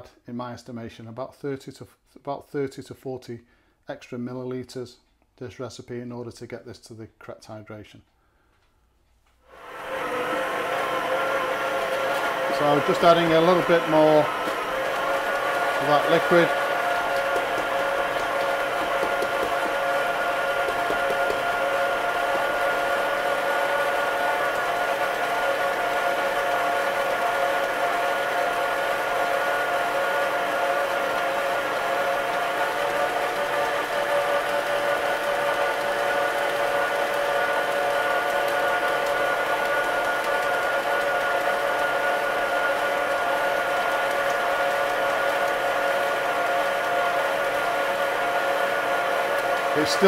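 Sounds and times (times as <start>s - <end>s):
stand mixer motor humming: 9.5s - 50.0s.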